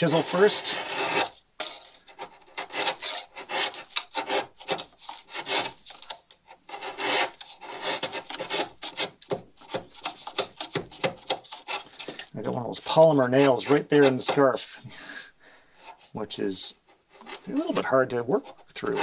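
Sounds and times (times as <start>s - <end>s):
chisel scraping wood: 0.0s - 14.6s, 16.8s - 19.0s.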